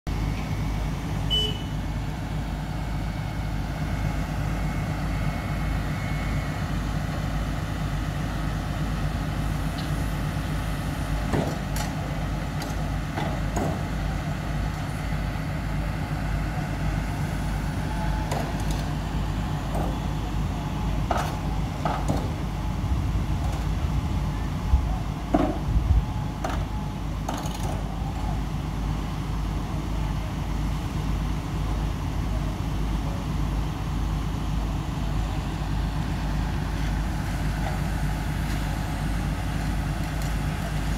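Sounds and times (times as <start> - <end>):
heavy machinery diesel drone: 0.1 - 40.9.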